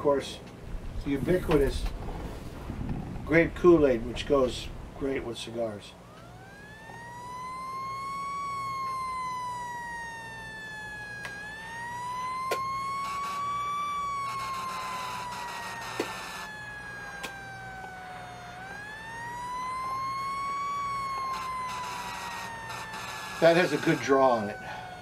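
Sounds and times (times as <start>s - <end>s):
siren wailing: 0.6s - 25.0s.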